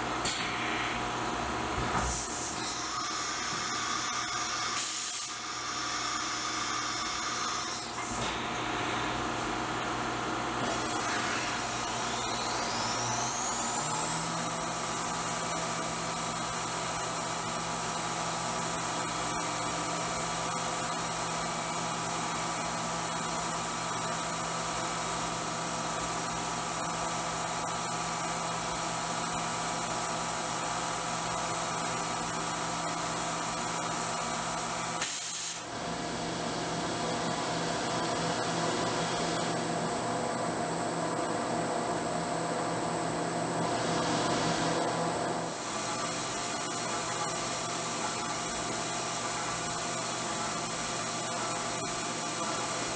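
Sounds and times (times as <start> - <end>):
milling machine spindle whine: 0.0 - 9.0, 10.4 - 35.0, 35.8 - 52.9.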